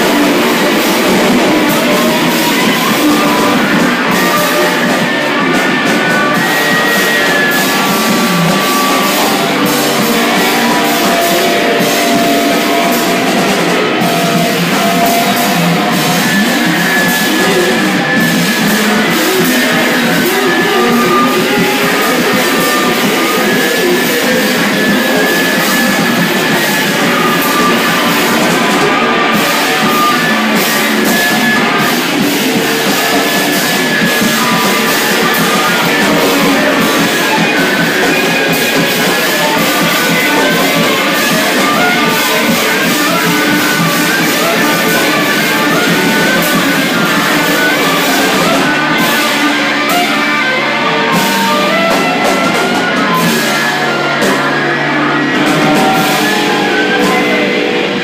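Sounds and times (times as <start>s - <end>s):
drum kit struck hard: 0.0s - 58.0s
electric guitars: 0.0s - 58.0s.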